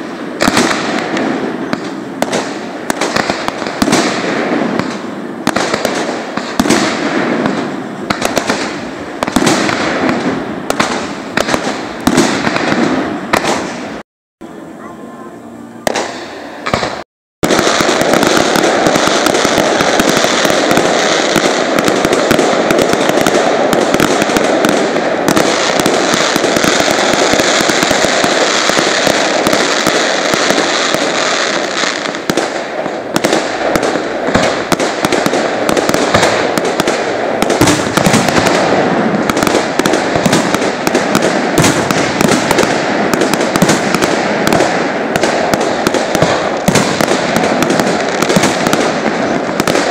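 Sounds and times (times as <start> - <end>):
fireworks bursting and crackling: 0.0 - 14.8, 15.8 - 49.9.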